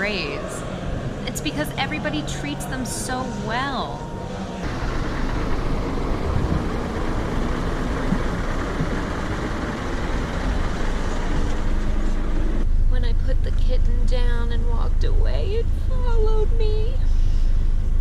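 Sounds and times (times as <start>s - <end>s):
low engine rumble: 0.0s - 18.0s
road noise: 0.0s - 18.0s.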